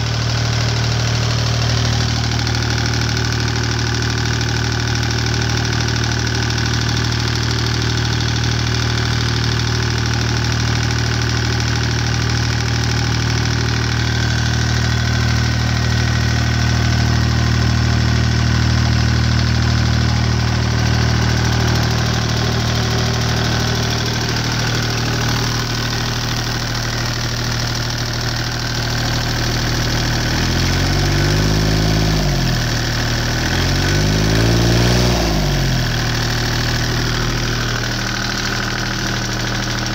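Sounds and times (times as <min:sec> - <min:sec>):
diesel engine revving: 0:00.0 - 0:09.8, 0:10.7 - 0:39.9
diesel engine running: 0:00.0 - 0:39.9.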